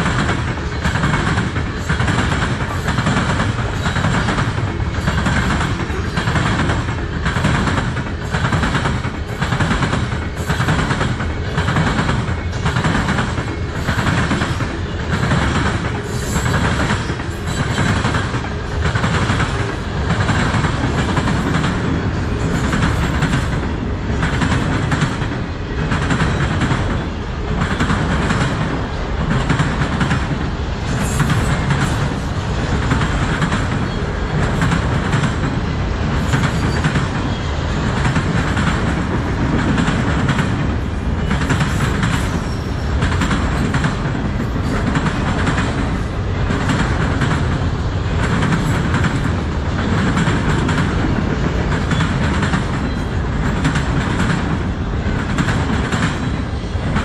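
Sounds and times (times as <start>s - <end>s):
freight train cars rumbling past: 0.0s - 57.0s.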